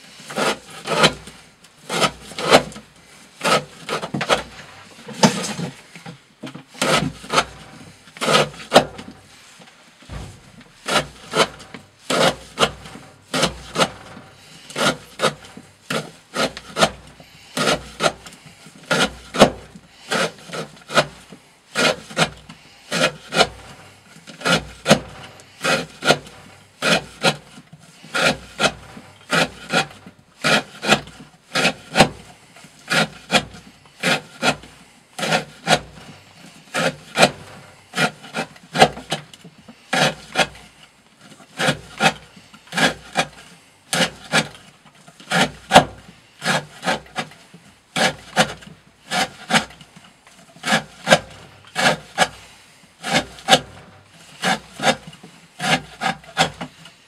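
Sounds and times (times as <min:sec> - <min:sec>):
knife scraping wood: 0:00.1 - 0:57.0.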